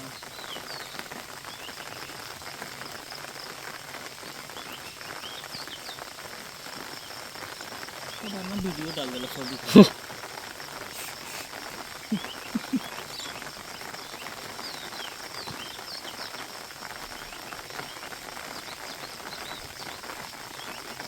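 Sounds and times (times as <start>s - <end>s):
small birds chirping: 0.0s - 21.0s
steady background hiss: 0.0s - 21.0s.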